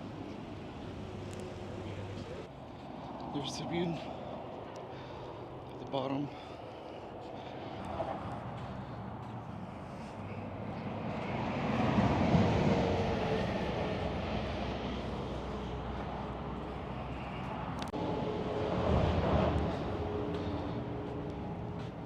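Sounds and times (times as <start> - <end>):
highway traffic passing: 0.0 - 22.0.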